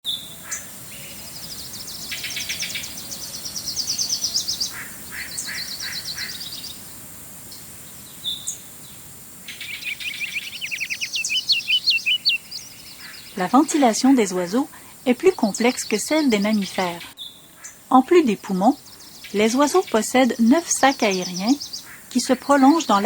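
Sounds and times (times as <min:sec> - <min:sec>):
songbirds trilling: 0:00.1 - 0:23.0.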